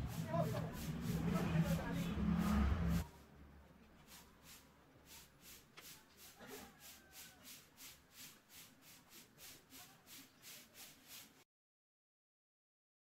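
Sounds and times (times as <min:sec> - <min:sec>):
wooden slide rubbing on wood: 0:00.0 - 0:03.1, 0:04.0 - 0:11.4.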